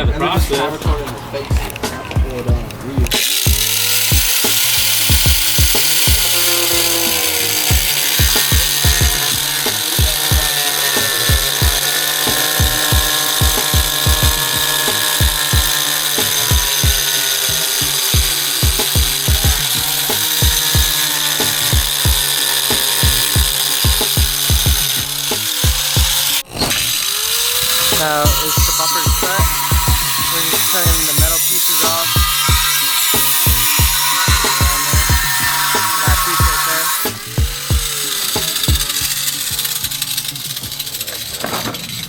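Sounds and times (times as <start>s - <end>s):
background music with beat: 0.0s - 26.4s, 27.5s - 41.0s
power tool cutting metal: 0.0s - 42.0s.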